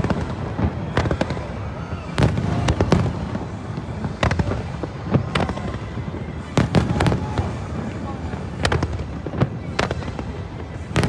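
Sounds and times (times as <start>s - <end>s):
fireworks bangs and pops: 0.0s - 11.0s
low rumble and crackle of fireworks: 0.0s - 11.0s.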